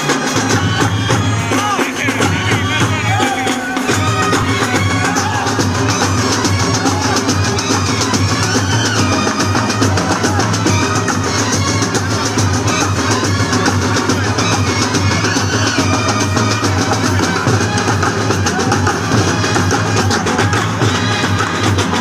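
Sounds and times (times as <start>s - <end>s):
drums playing steady beat: 0.0s - 22.0s.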